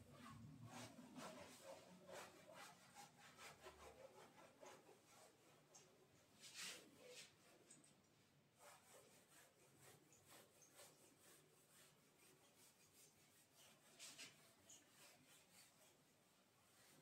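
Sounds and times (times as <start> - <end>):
marker strokes on whiteboard: 0.0 - 17.0.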